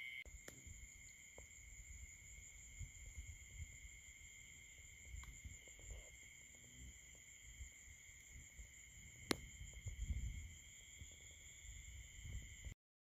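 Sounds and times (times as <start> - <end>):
night insects chorus: 0.0 - 12.8.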